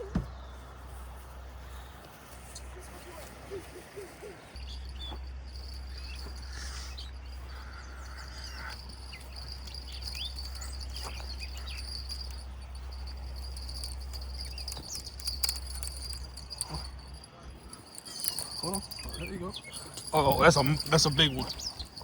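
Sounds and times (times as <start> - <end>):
high-pitched insect trill: 4.0 - 22.0.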